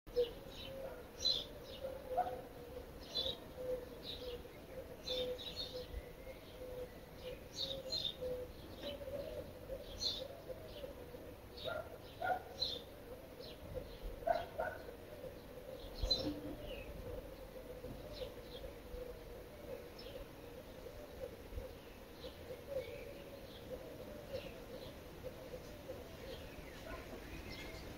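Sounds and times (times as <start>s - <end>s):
birds chirping: 0.1s - 27.9s.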